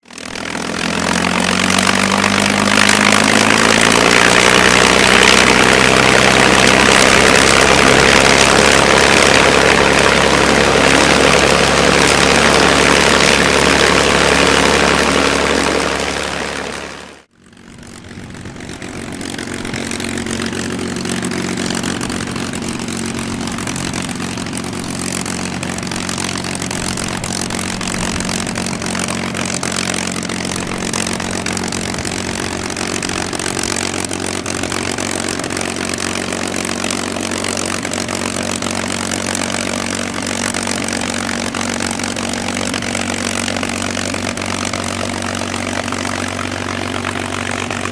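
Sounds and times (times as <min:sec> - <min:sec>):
aircraft piston engine revving: 0:00.0 - 0:47.9.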